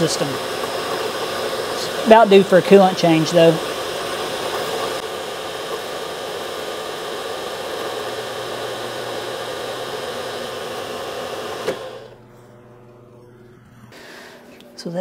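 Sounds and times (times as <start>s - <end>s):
coolant flowing: 0.0s - 12.3s.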